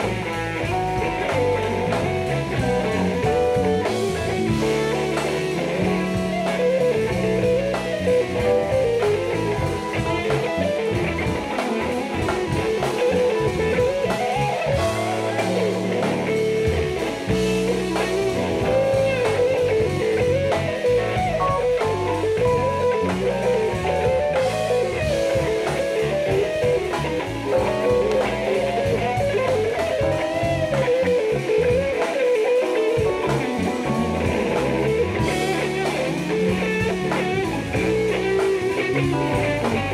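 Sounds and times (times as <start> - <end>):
bass: 0.0 - 39.9
drum kit: 0.0 - 39.9
electric guitar line: 0.0 - 39.9.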